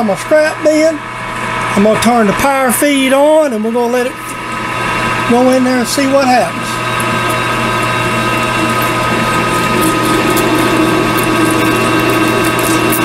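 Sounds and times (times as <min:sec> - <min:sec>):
low machine hum: 0:00.0 - 0:13.0
metal lathe whine: 0:00.0 - 0:13.0.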